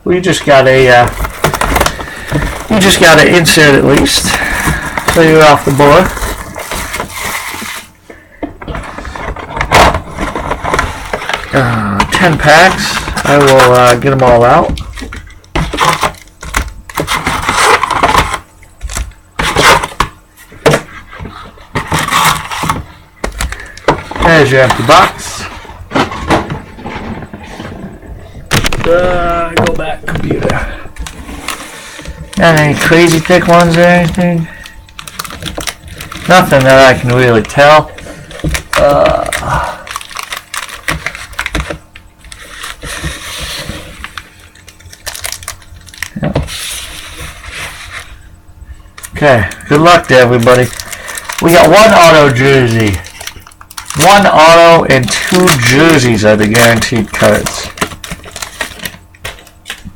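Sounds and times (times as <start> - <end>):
card packs rustling on cardboard: 0.1 - 59.9.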